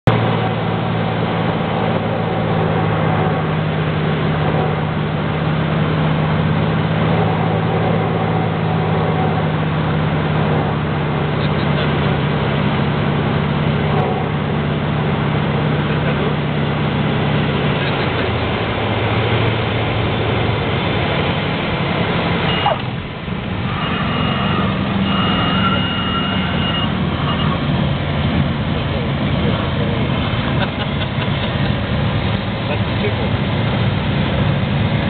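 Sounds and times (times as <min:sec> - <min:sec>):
airplane engine drone in cabin: 0:00.1 - 0:35.0.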